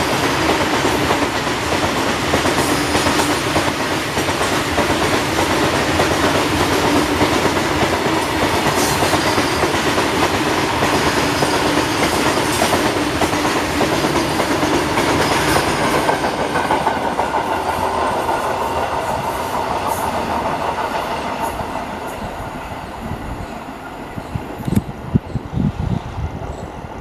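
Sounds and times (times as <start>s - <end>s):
freight train wheels rolling: 0.0s - 27.0s.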